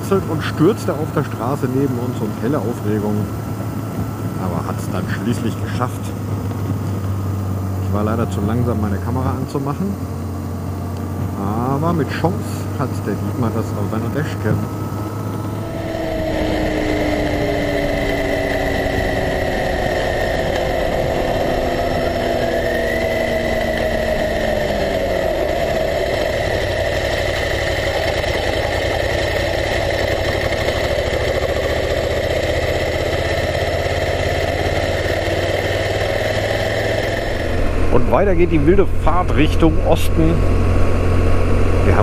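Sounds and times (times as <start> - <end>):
motorcycle engine: 0.0 - 42.0.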